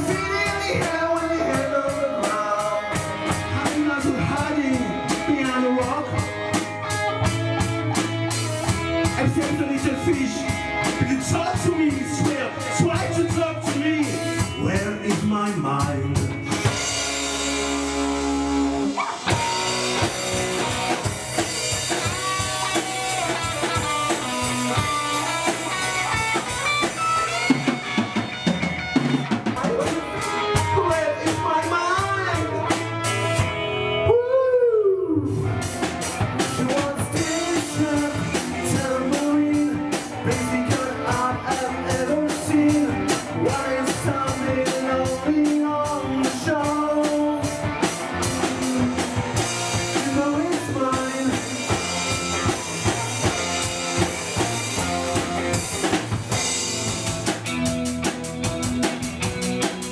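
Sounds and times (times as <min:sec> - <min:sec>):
lead electric guitar bends: 0:00.0 - 0:59.9
live pop-rock band playing: 0:00.0 - 0:59.9.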